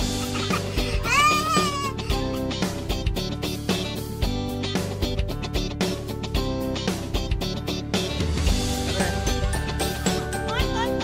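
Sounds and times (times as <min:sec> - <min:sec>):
strummed guitar over a beat: 0:00.0 - 0:10.9.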